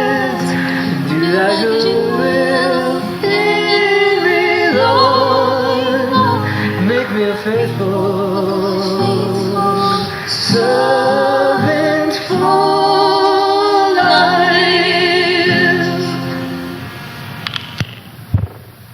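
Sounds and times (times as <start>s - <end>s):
voices singing a duet: 0.0s - 17.3s.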